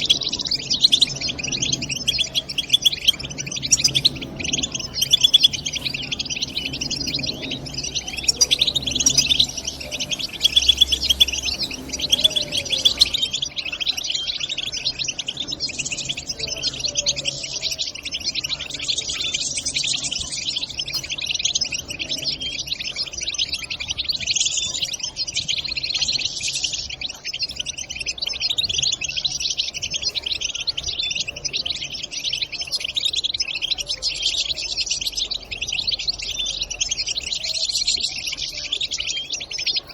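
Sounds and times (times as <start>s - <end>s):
goldfinches chattering: 0.0s - 39.9s.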